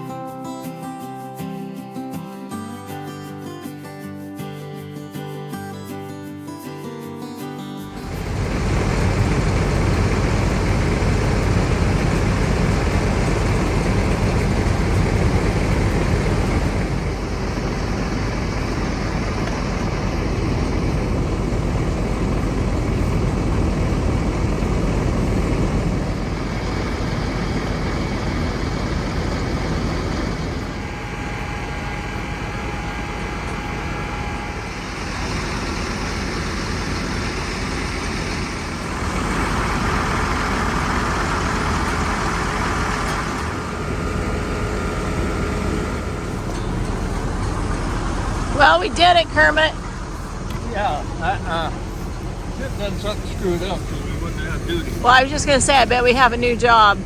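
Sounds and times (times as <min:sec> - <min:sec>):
heavy vehicle engine running: 0:07.9 - 0:57.0.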